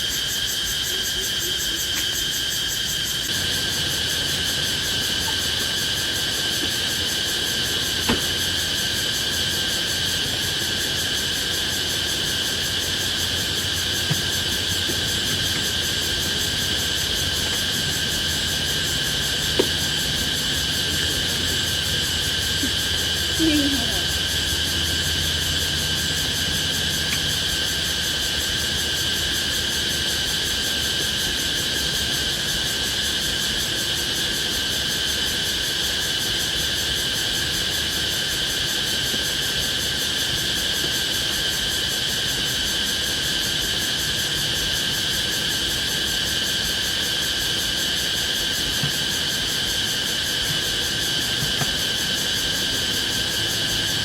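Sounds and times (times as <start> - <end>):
night insects chorus: 0.0 - 54.0.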